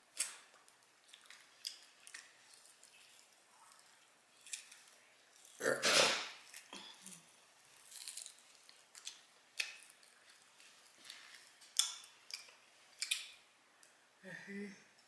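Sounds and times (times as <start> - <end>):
chewing and lip smacking: 0.1 - 5.6, 6.5 - 13.4.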